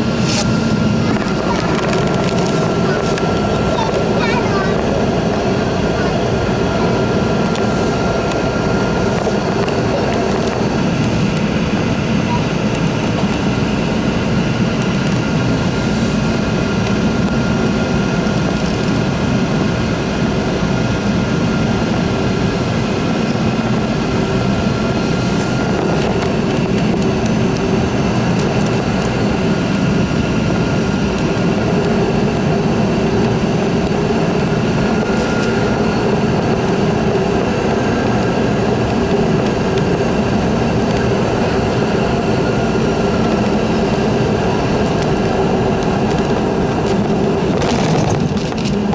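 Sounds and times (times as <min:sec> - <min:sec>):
airplane cabin engine rumble: 0:00.0 - 0:48.9
steady engine whine: 0:00.0 - 0:48.9.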